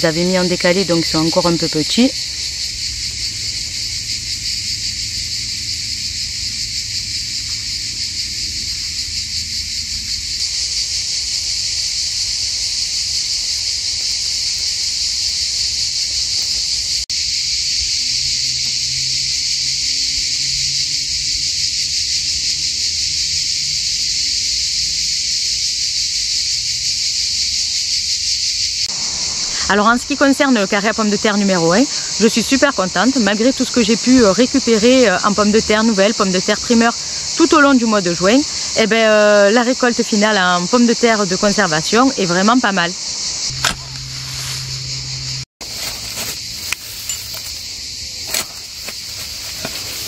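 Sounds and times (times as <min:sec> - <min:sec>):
insects buzzing: 0:00.0 - 0:50.0.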